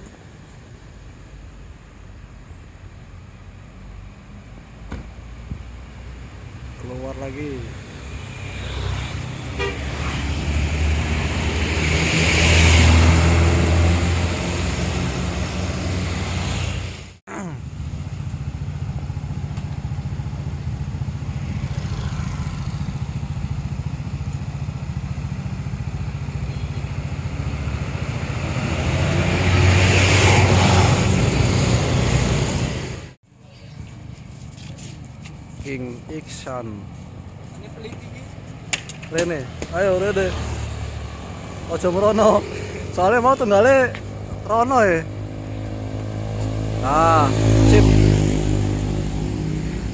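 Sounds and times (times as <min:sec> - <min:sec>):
coach diesel engines passing: 0:00.0 - 0:49.9.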